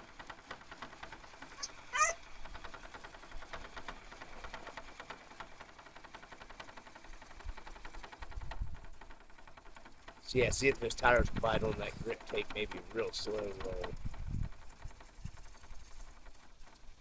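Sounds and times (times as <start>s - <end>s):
toy car drivetrain ticking: 0.0s - 17.0s.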